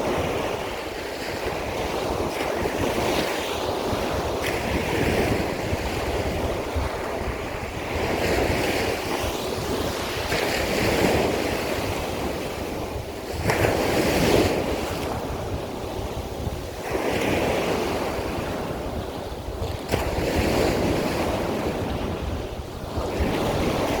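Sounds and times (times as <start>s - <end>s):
waves breaking: 0.0s - 24.0s
wind on microphone: 0.0s - 24.0s.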